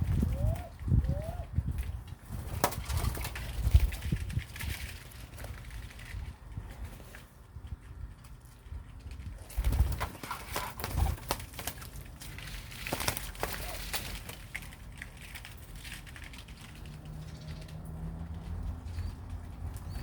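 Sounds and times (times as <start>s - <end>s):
wing flutters: 0.0s - 7.3s, 9.0s - 20.0s.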